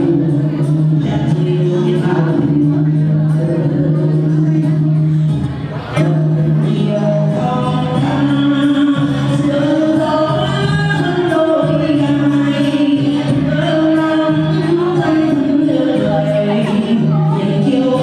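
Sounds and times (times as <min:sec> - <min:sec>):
musical accompaniment: 0:00.0 - 0:18.0.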